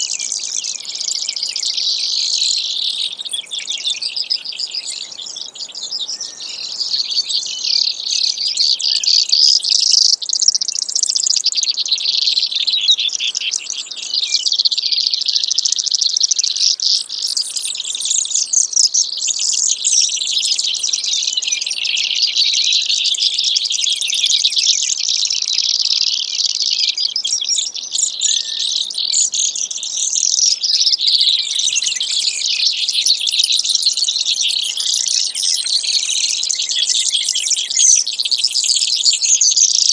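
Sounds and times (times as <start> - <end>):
sparrow trilling song: 0.0 - 39.9.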